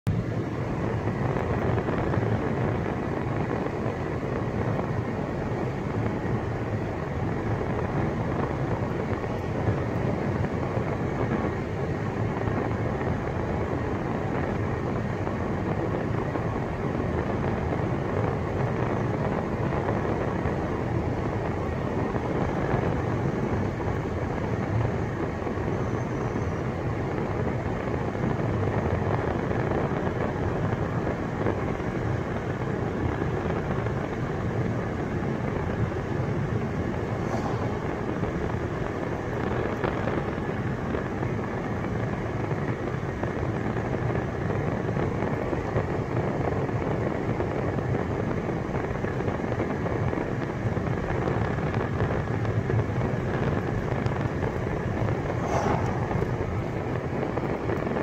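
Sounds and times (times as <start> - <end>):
car cabin road rumble: 0.1 - 58.0.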